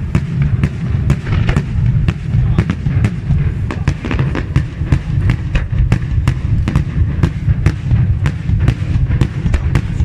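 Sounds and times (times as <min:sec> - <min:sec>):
continuous low rumble: 0:00.0 - 0:10.0
fireworks sharp bangs: 0:00.0 - 0:10.0.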